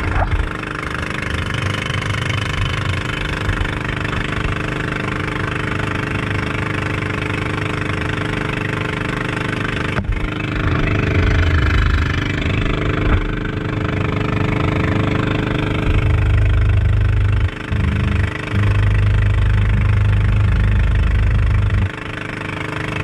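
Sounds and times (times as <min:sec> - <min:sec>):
boat engine running: 0:00.0 - 0:23.0
wind: 0:00.0 - 0:23.0.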